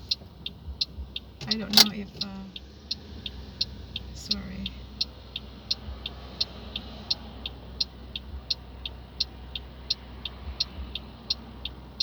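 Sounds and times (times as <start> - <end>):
car engine low rumble: 0.0 - 12.0
turn signal ticking: 0.0 - 12.0.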